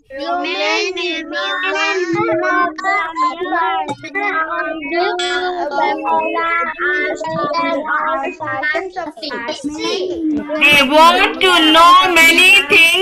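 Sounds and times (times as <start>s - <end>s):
children reciting in chorus: 0.0s - 13.0s.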